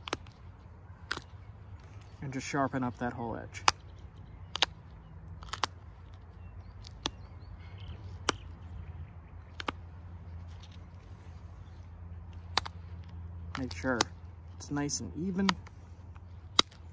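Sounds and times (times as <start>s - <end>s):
sharp clicks of flint flaking: 0.0s - 8.8s, 9.4s - 16.9s
low steady hum: 0.0s - 16.9s.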